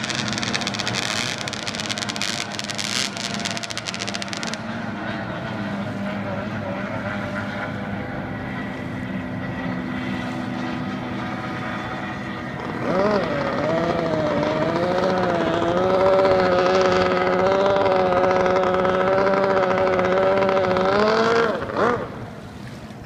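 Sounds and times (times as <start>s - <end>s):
racing boat engines: 0.0s - 23.0s.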